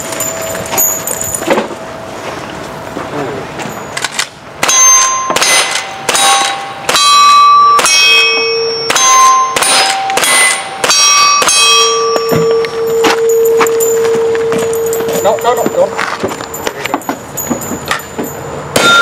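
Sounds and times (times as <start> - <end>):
steel plates ringing: 0.0 - 1.5, 3.6 - 19.0.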